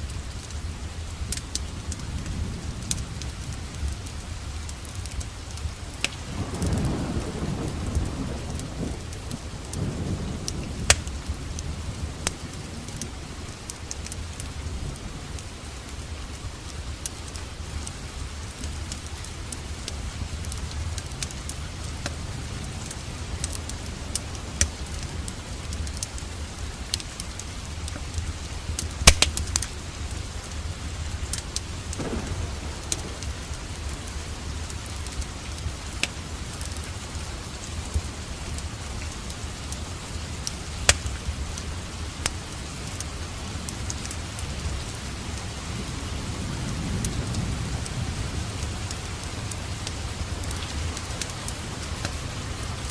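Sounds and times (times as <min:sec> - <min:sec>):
steady rain: 0:00.0 - 0:52.9
wood fire crackling: 0:00.0 - 0:52.9.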